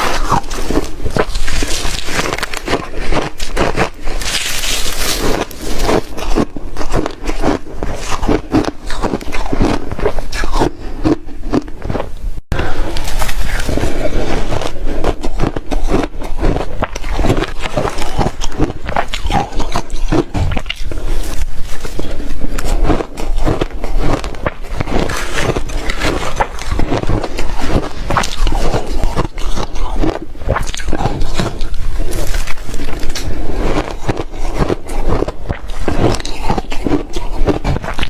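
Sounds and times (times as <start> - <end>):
ice being chewed: 0.0 - 38.0.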